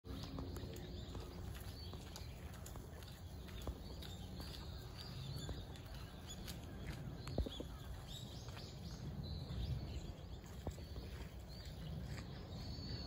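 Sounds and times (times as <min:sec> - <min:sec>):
small birds chirping: 0:00.0 - 0:13.0
steady low rumble: 0:00.1 - 0:13.0.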